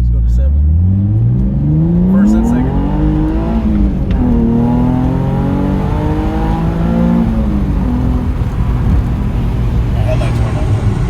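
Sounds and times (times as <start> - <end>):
car engine revving hard: 0.6 - 11.0.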